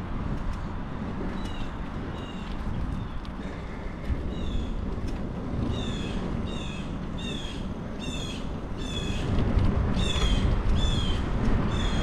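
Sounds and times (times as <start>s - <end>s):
low rumble of moving bicycle: 0.0s - 12.0s.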